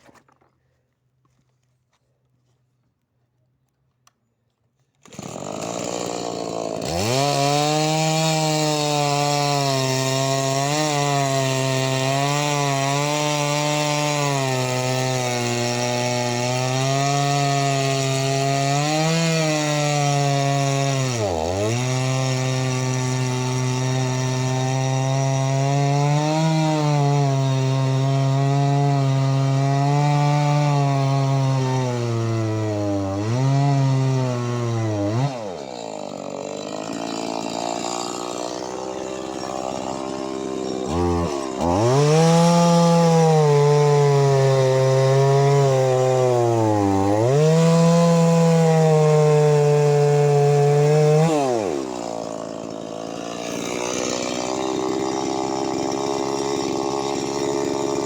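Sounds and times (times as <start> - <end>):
chainsaw cutting log: 0.0 - 0.5, 5.0 - 58.0.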